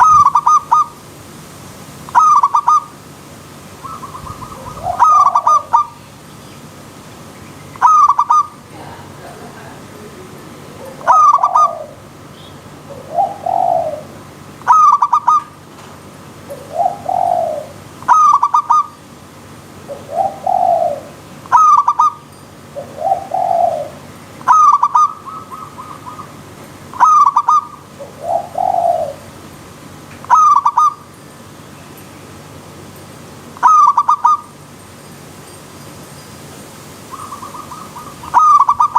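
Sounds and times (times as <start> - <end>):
dove song: 0.0 - 38.9.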